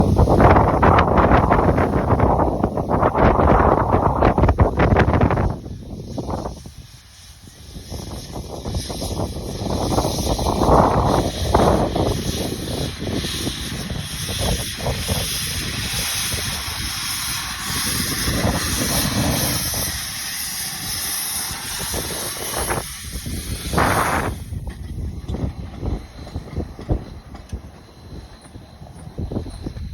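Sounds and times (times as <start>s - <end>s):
steam hissing from locomotive: 0.0s - 29.9s
wind buffeting microphone: 0.0s - 29.9s.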